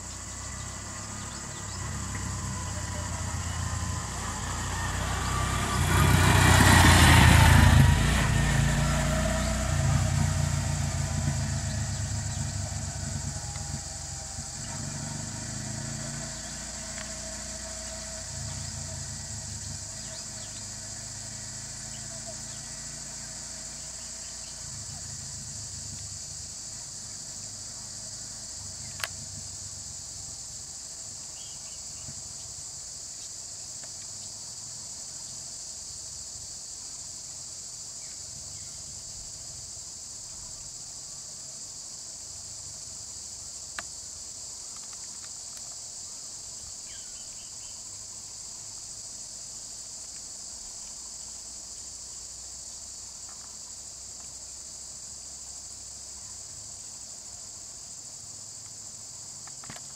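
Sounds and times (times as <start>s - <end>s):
insects chorus: 0.0s - 59.9s.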